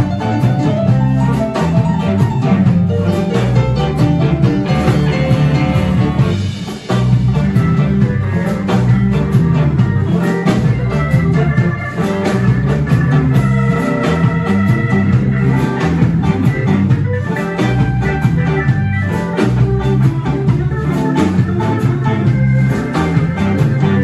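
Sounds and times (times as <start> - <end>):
blues band playing: 0.0 - 24.0.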